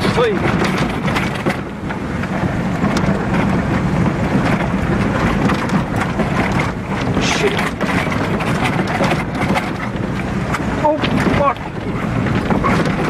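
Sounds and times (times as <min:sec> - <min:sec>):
rain on a vehicle: 0:00.0 - 0:13.0
tyres rumbling: 0:00.0 - 0:13.0
vehicle engine running: 0:00.0 - 0:13.0.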